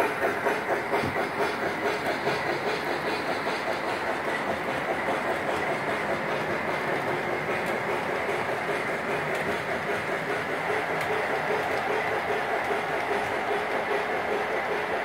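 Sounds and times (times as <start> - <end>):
model train wheels rolling: 0.0 - 15.0
steam locomotive chuffing: 0.0 - 15.0.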